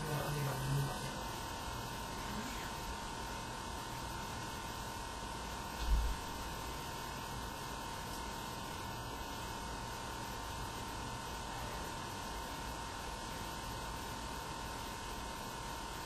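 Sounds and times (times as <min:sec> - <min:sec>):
camcorder recording hiss: 0:00.0 - 0:16.0
thin constant tone: 0:00.0 - 0:16.0.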